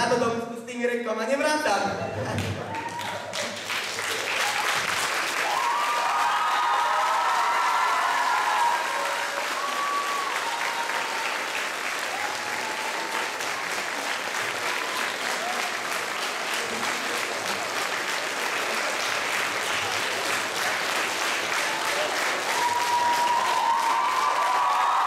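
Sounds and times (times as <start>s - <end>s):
audience clapping: 2.2s - 25.0s.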